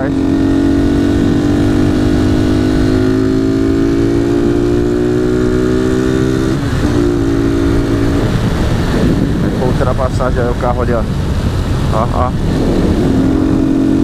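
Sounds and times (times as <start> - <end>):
wind rumble in helmet: 0.0 - 14.0.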